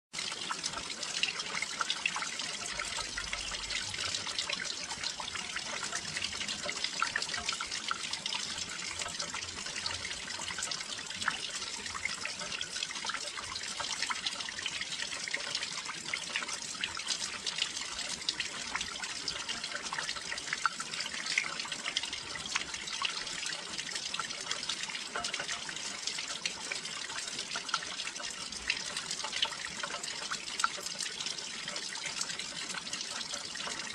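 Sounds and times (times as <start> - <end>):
raindrops hitting: 0.2 - 33.9.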